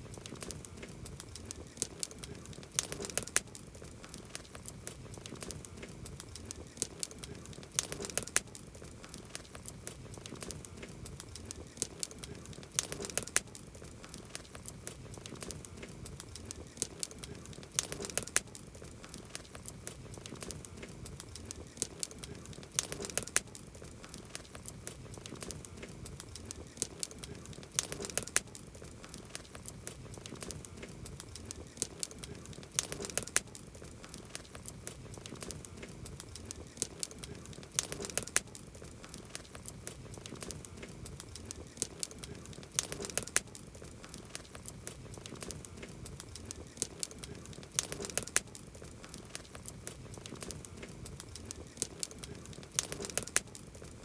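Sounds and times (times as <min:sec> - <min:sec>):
campfire crackling and popping: 0:00.0 - 0:54.0
low hiss: 0:00.0 - 0:54.0.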